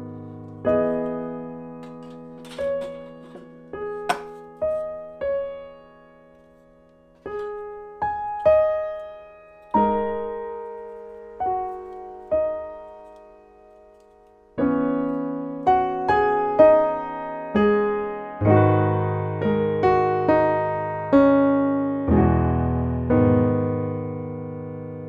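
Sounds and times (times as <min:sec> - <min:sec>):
slow solo piano music: 0:00.0 - 0:25.0.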